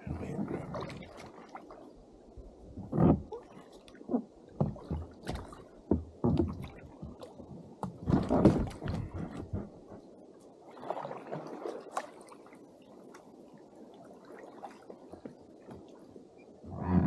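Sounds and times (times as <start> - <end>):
paddle strokes splashing water: 0.0 - 2.1, 2.7 - 16.4.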